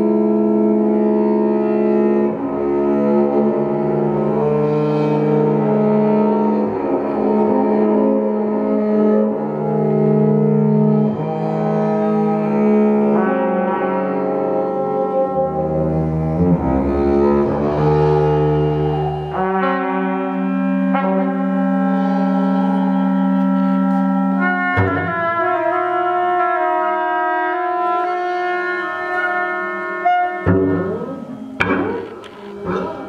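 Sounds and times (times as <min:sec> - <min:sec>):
chamber music: 0:00.0 - 0:33.0
double bass bowing held notes: 0:00.0 - 0:33.0.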